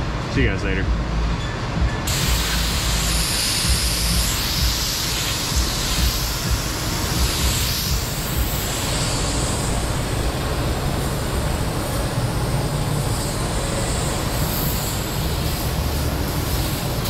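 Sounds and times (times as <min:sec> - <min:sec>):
hissing mist spray: 0:02.1 - 0:17.0.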